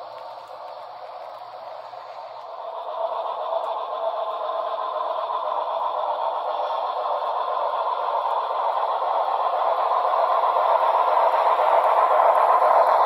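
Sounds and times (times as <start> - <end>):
model train motors whirring: 0.0 - 13.0.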